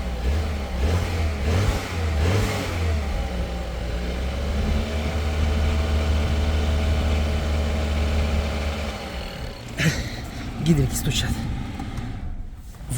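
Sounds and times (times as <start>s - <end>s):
car engine revving and idling: 0.0s - 12.9s.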